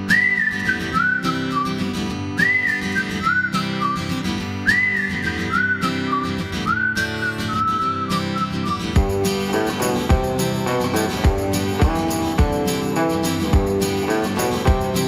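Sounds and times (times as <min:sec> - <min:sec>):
acoustic guitar: 0:00.0 - 0:15.0
whistled melody: 0:00.0 - 0:15.0.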